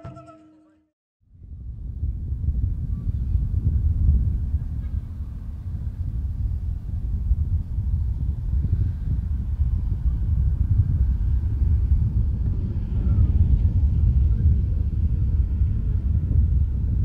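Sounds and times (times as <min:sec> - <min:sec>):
wind buffeting microphone: 0:01.2 - 0:17.0.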